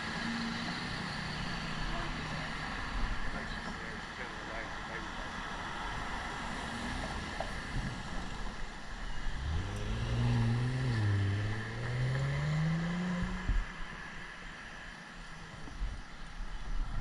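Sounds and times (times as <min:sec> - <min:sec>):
vehicle engine accelerating: 0:00.0 - 0:14.2
road and wind noise: 0:00.0 - 0:17.0.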